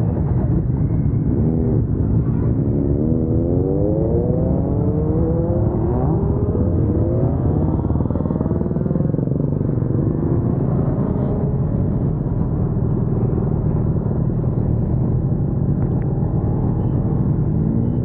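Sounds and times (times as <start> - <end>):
motorcycle engine close up: 0.0 - 18.0
other motorcycles running: 0.0 - 18.0.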